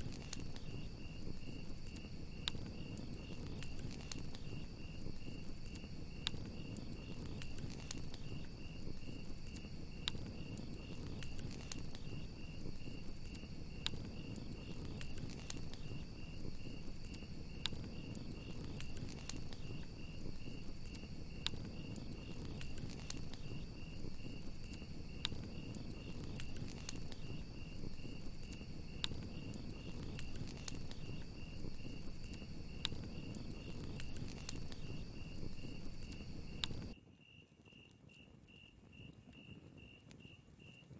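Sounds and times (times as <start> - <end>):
wood fire crackling and popping: 0.0 - 37.0
crickets chirping: 0.0 - 40.9.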